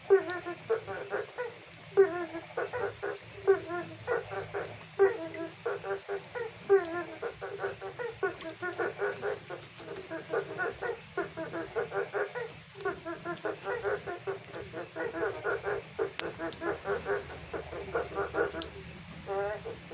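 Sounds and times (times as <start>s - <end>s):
frogs croaking: 0.0s - 19.9s
water dripping clicks: 0.0s - 19.9s.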